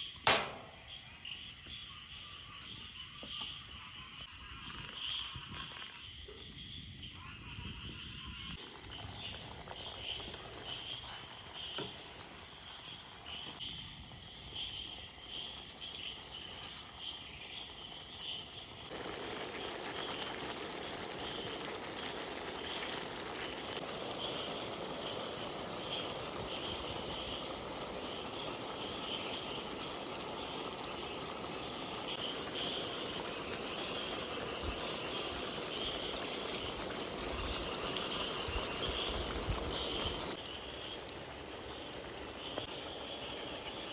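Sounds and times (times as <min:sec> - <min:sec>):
even hiss: 0:00.0 - 0:01.6, 0:08.6 - 0:43.9
crickets chirping: 0:00.0 - 0:43.9.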